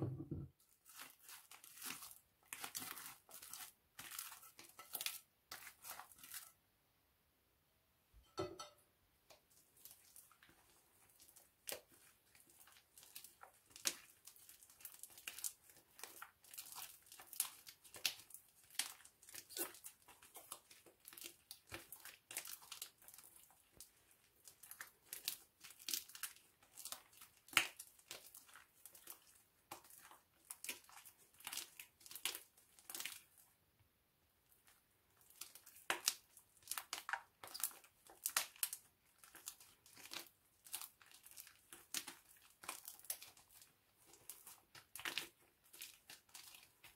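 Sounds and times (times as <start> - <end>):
slime crackling and popping: 0.8 - 6.5, 9.8 - 33.4, 34.7 - 46.9.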